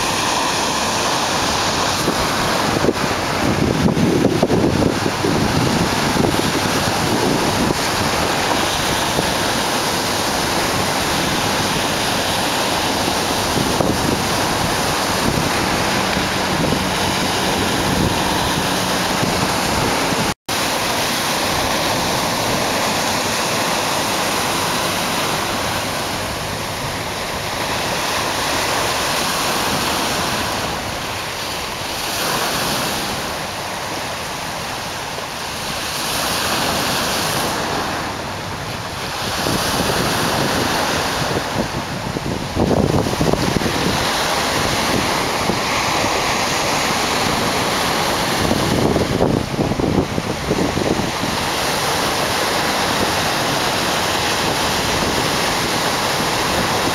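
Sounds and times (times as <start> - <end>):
waves washing over rocks: 0.0 - 56.9.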